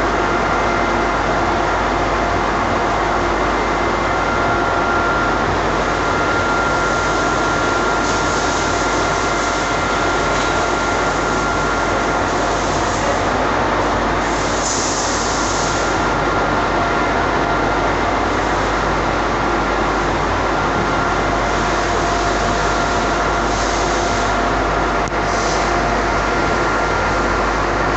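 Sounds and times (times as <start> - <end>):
machinery running with whine: 0.0 - 27.9.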